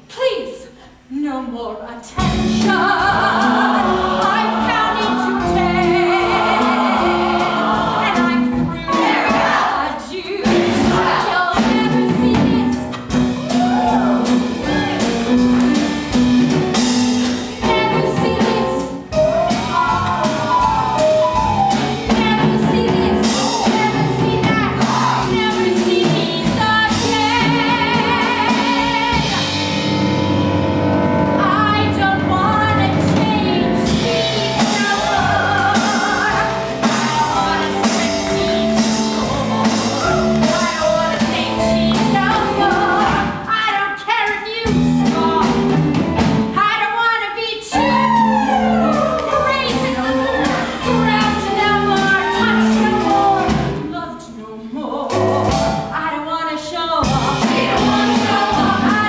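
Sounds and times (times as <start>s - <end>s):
singers singing: 2.2s - 16.4s, 17.2s - 29.9s, 31.4s - 43.9s, 47.7s - 55.6s, 57.0s - 59.0s
live band playing show tune: 2.2s - 54.0s, 55.1s - 56.0s, 57.0s - 59.0s.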